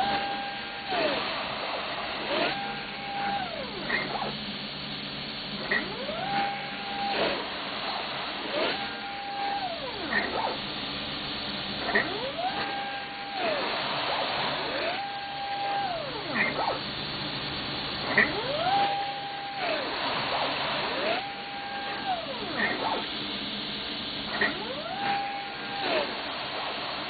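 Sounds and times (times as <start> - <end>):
drive motor whining: 0.0 - 27.0
steady low hum: 0.0 - 27.0.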